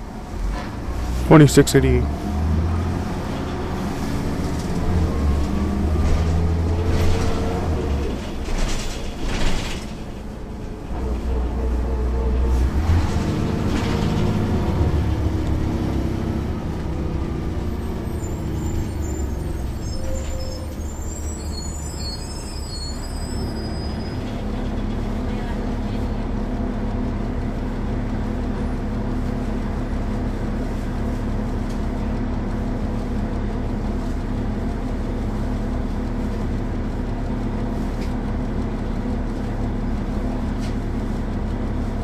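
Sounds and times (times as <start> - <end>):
bus diesel engine accelerating: 0.0 - 42.0.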